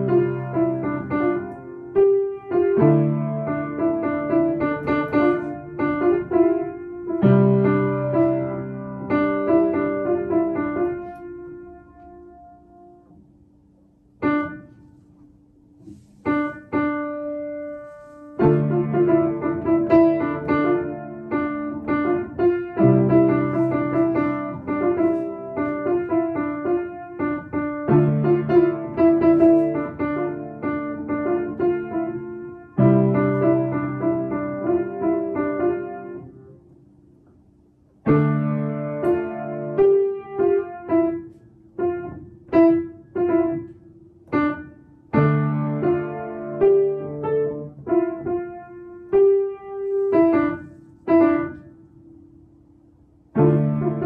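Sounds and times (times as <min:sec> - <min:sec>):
upright piano playing: 0:00.0 - 0:37.3, 0:38.0 - 0:54.0.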